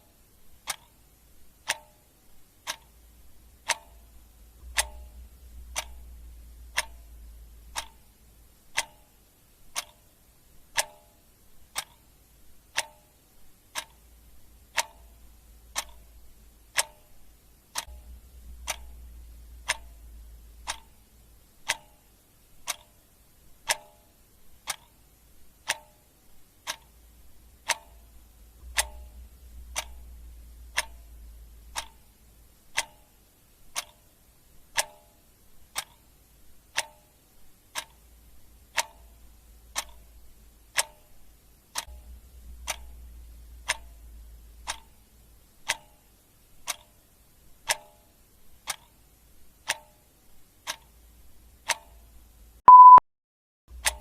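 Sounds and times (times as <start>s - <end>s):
clock ticking: 0.0s - 53.0s, 53.7s - 54.0s
faint low hum: 0.0s - 53.0s.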